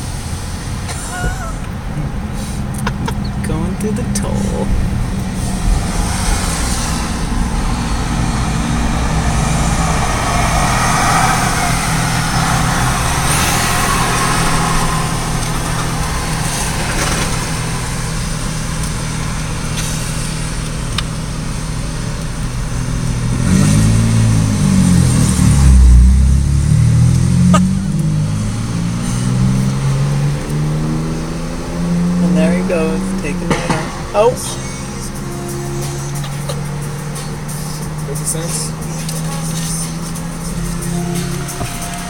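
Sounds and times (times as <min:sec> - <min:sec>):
car engine revving: 0:00.0 - 0:42.0
car engine running: 0:00.0 - 0:42.0
road noise: 0:00.0 - 0:42.0.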